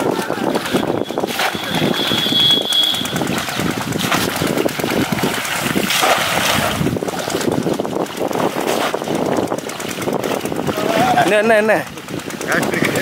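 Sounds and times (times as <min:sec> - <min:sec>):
legs wading through water: 0:00.0 - 0:13.0
water splashing and sloshing: 0:00.0 - 0:13.0.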